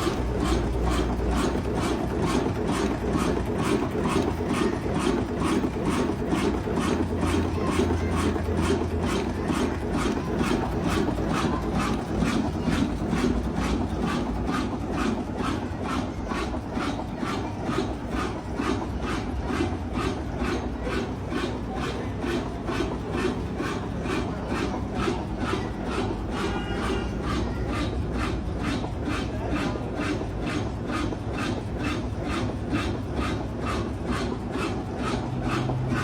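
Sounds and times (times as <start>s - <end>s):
old diesel engine knocking: 0.0s - 36.0s.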